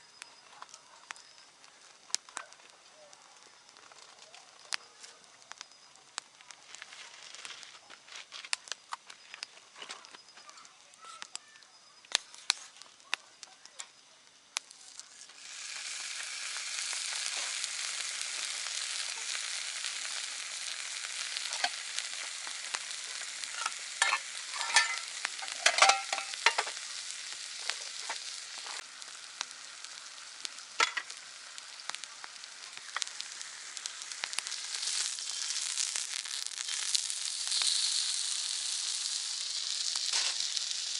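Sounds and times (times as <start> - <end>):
campfire crackling: 0.0 - 40.9
food sizzling: 0.0 - 40.9.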